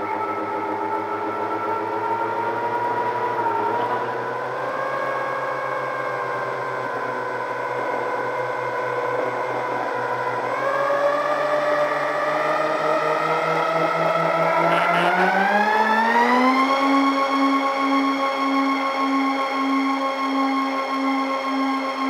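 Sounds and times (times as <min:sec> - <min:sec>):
electric motors and propellers whining: 0:00.0 - 0:22.0.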